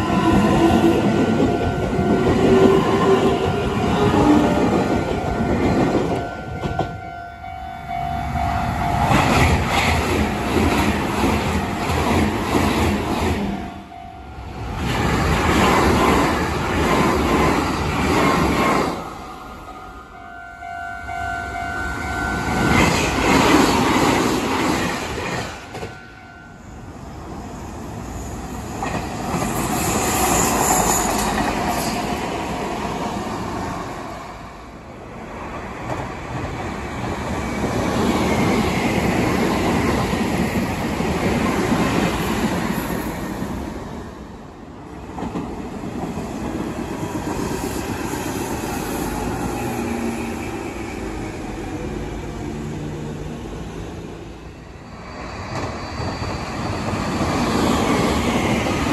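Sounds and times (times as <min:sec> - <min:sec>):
electric trains passing on rails: 0:00.0 - 0:58.9.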